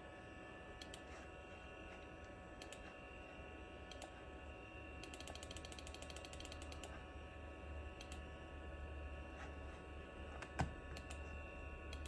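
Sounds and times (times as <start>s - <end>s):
computer hum and whine: 0.0s - 12.0s.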